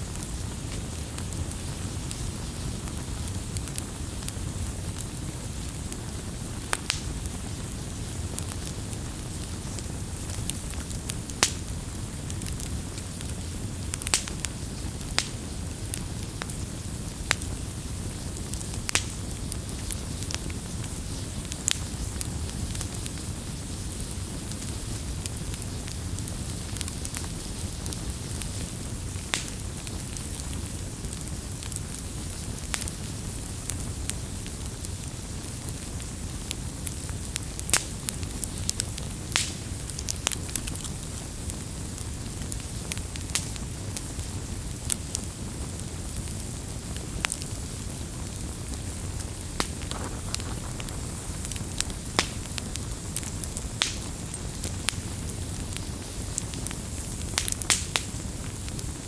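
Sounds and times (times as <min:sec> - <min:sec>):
rumble of flames: 0:00.0 - 0:59.0
wood crackling and popping: 0:00.0 - 0:59.0.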